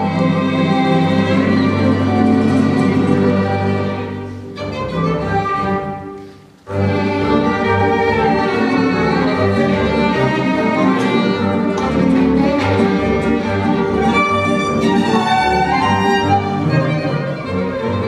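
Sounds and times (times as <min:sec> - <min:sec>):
string quartet bowed chords: 0:00.0 - 0:18.0.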